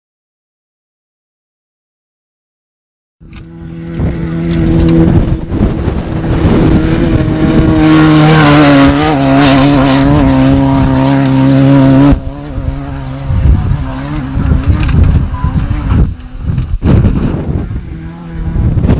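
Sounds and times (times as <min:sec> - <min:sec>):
race vehicle engine running hard: 0:03.2 - 0:18.9.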